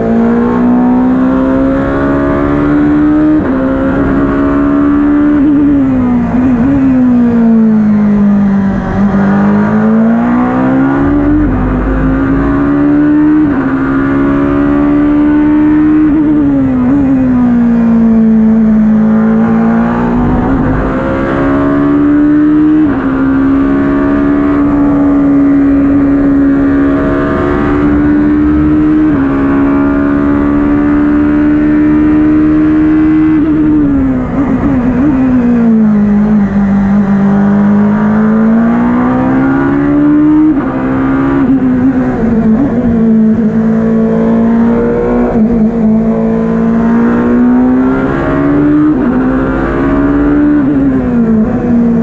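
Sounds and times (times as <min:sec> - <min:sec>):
race car engine accelerating: 0:00.0 - 0:52.0.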